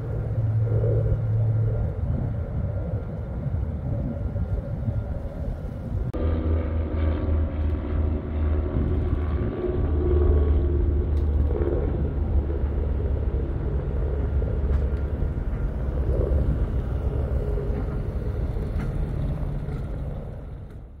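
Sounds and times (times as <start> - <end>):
low rumble: 0.0 - 21.0
propeller aircraft flying overhead: 0.0 - 21.0.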